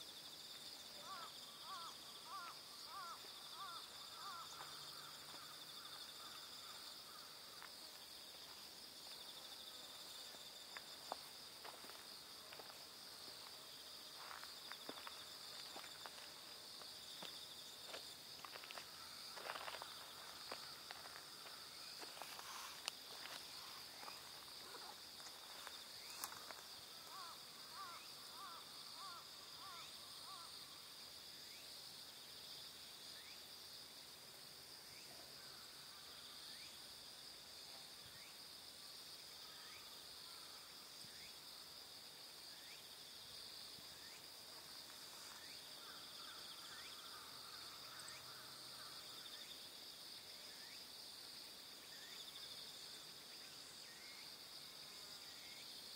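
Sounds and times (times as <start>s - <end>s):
insect chorus buzzing: 0.0s - 55.9s.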